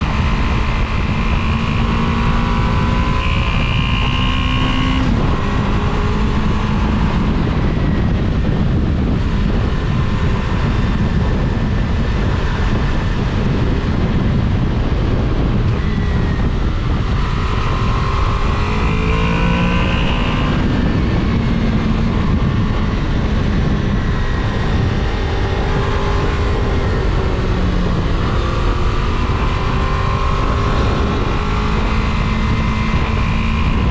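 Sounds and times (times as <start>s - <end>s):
motorcycle engine: 0.0s - 33.9s
wind and road rush: 0.0s - 33.9s.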